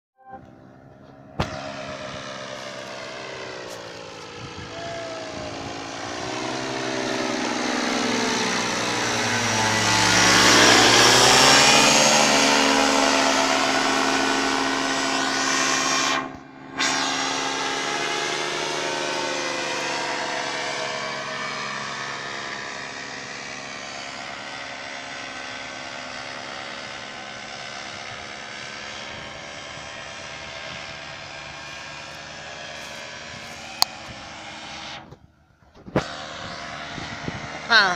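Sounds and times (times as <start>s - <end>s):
paramotor engine and propeller droning: 0.2s - 37.9s.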